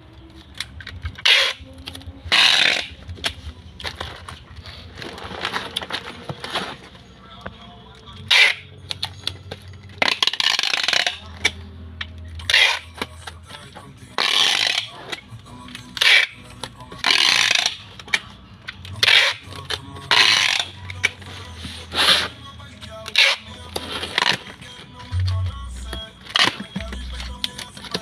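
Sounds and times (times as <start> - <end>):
packing tape unrolling from dispenser: 0.2 - 7.1, 8.0 - 28.0.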